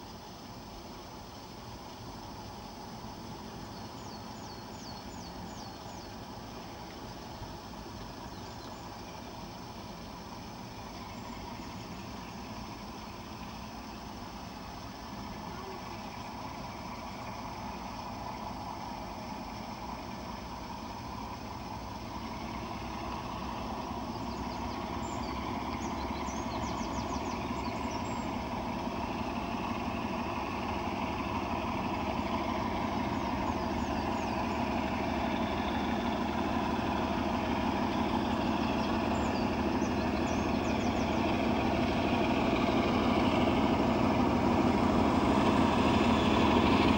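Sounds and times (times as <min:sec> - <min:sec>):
diesel locomotive engines droning: 0:00.0 - 0:46.9
faint bird chirps: 0:01.8 - 0:20.4, 0:22.1 - 0:43.4.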